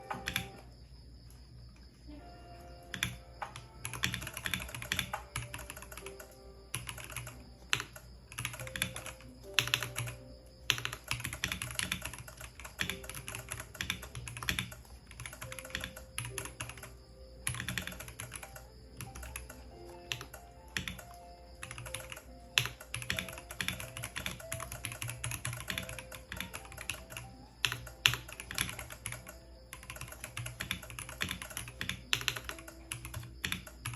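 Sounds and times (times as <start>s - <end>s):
mechanical keyboard typing: 0.0s - 0.7s, 2.9s - 33.9s.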